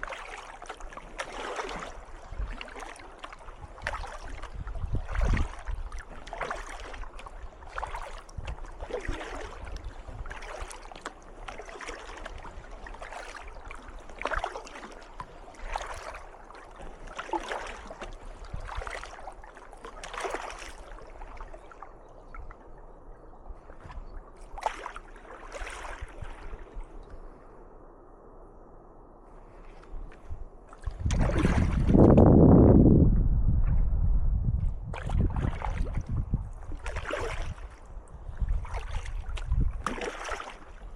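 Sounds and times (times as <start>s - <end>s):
kayak paddle splashes: 0.0s - 27.6s, 29.4s - 32.7s, 34.8s - 40.9s.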